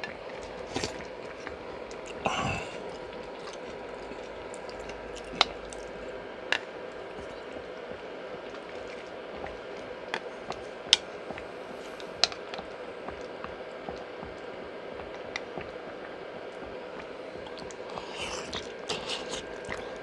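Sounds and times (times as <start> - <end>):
soup boiling and bubbling: 0.0 - 20.0
wet chewing: 0.0 - 20.0.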